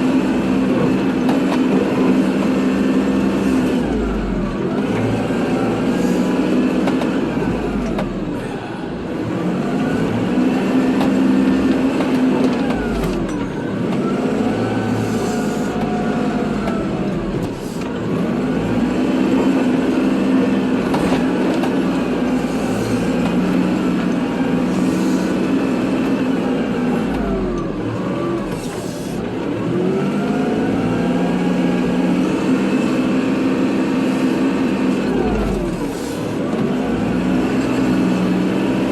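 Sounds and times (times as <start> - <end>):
diesel tractor engine working: 0.0 - 38.9.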